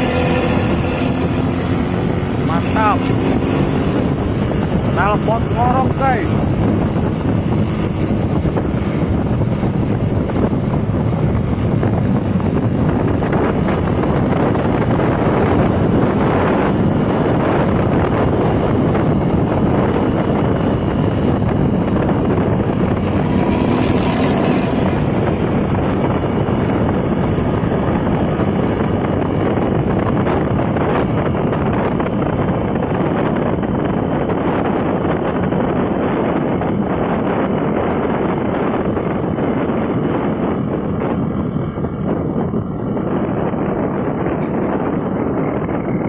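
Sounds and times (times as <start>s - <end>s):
wind on microphone: 0.0s - 46.0s.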